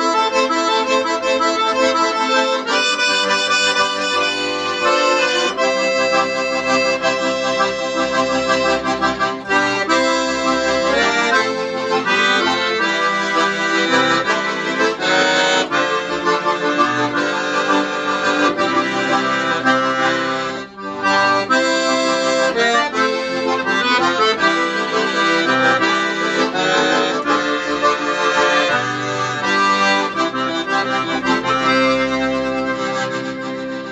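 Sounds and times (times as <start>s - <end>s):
accordions playing a hymn: 0.0s - 33.9s.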